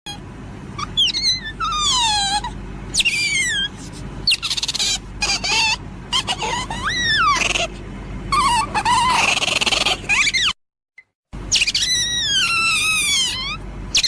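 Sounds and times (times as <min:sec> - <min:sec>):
animal whistles and squeals: 0:00.8 - 0:10.6, 0:11.5 - 0:14.0.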